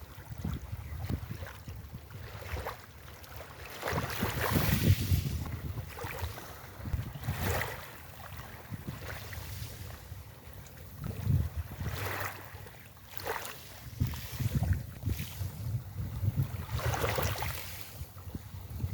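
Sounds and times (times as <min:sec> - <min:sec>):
wind buffeting microphone: 0:00.0 - 0:02.7, 0:03.8 - 0:10.3, 0:10.9 - 0:12.4, 0:13.7 - 0:18.9
waves washing onto beach: 0:00.0 - 0:18.9.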